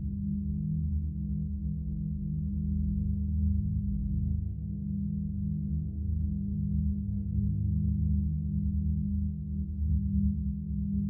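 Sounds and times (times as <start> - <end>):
low layered meditation drone: 0.0 - 11.0.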